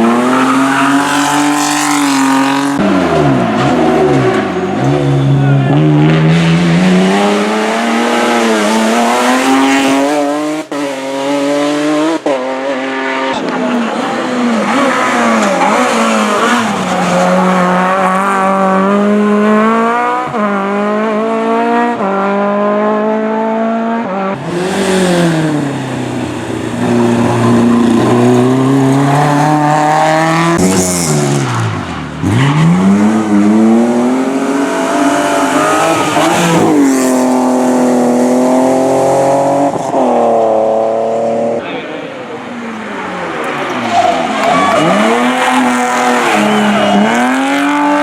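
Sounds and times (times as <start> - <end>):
race car engine revving: 0.0 - 41.6, 42.7 - 48.0.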